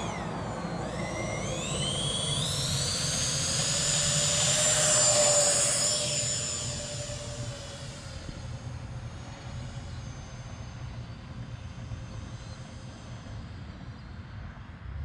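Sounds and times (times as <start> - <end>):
electric ducted fans whining: 0.0 - 15.0.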